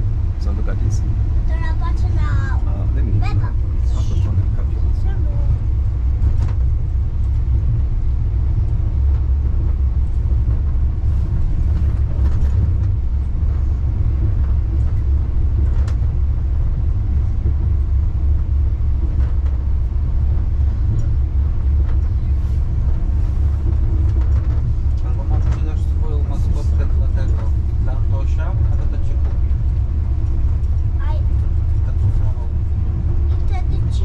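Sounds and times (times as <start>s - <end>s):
railway car rumble: 0.0s - 34.0s.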